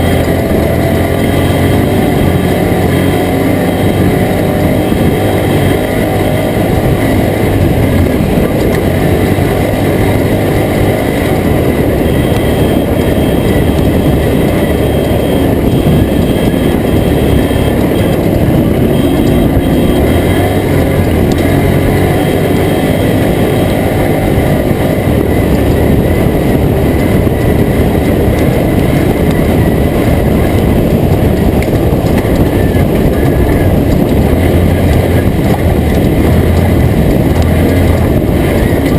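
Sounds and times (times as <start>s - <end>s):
truck engine and driving noise: 0.0s - 38.9s.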